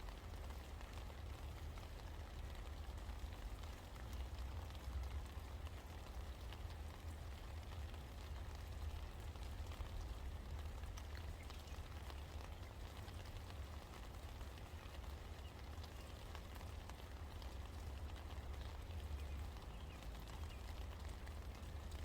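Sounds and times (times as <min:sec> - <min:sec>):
rain falling: 0:00.0 - 0:22.0
raindrops ticking on surfaces: 0:00.0 - 0:22.0.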